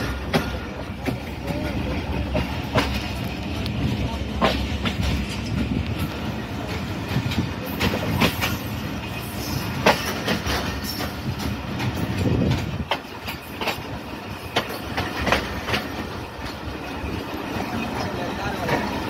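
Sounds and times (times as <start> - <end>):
train rumbling: 0.0 - 19.0
wheels clicking over rail joints: 0.0 - 19.0.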